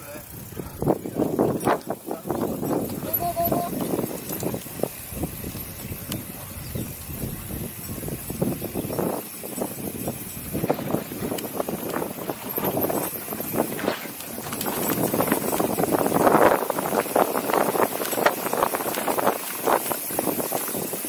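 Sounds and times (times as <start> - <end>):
bike rattling on dirt trail: 0.0 - 21.0
wind on microphone: 0.0 - 21.0.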